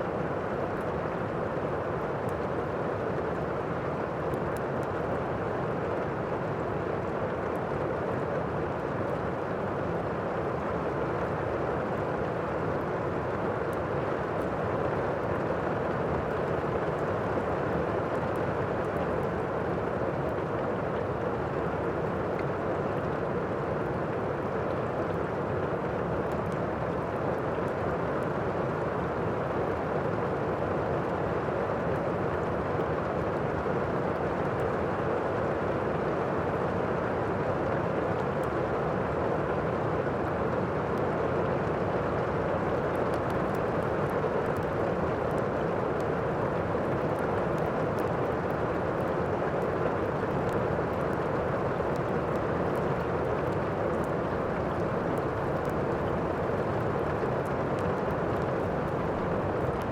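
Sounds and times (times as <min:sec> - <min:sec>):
faint fireplace crackles: 0:00.0 - 0:59.9
steady rain: 0:00.0 - 0:59.9.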